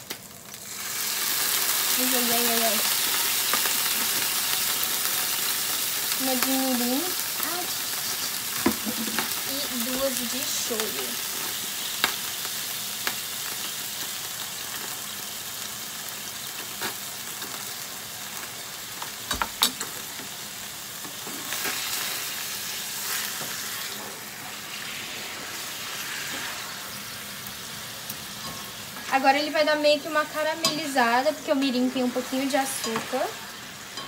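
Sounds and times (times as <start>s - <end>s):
tofu sizzling in a frying pan: 0.0s - 34.0s.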